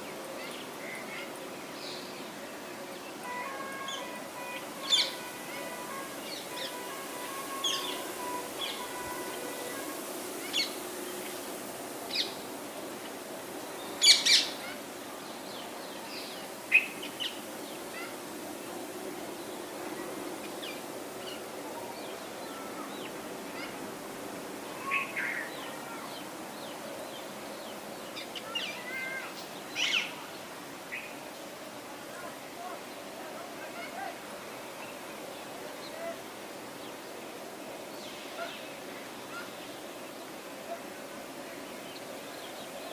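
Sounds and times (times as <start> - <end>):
faint steady background noise: 0.0 - 42.9.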